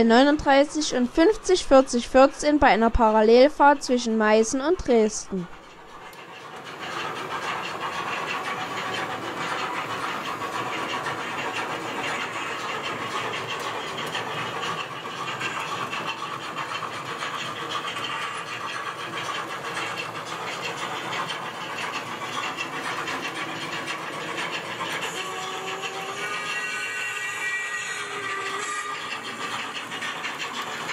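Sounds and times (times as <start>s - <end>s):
model steam locomotives chuffing: 0.0s - 30.9s.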